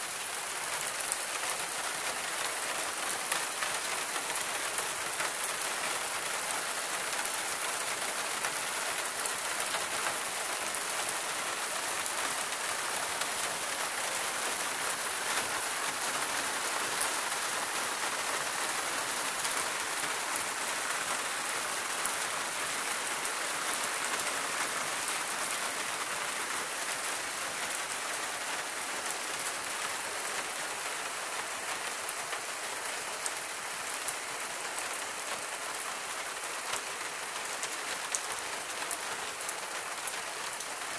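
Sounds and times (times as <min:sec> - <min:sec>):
rain on tiled surface: 0:00.0 - 0:40.9.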